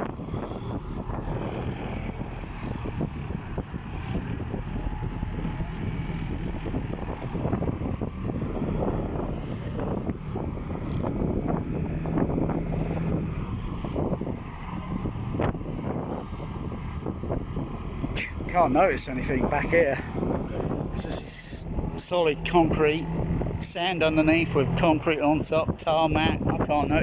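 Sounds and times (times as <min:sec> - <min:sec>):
heavy machinery engine drone: 0:00.0 - 0:27.0.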